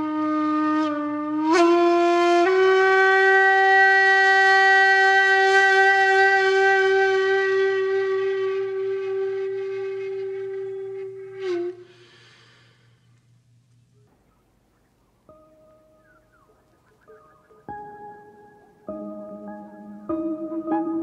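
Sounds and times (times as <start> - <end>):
breathy bamboo flute: 0.0 - 13.1, 14.1 - 20.7.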